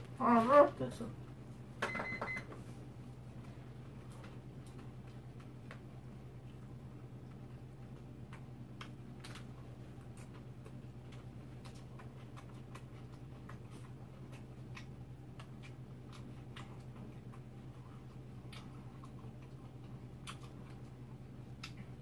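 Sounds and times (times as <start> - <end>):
steady low hum: 0.0 - 22.0
crunchy chewing: 3.3 - 22.0.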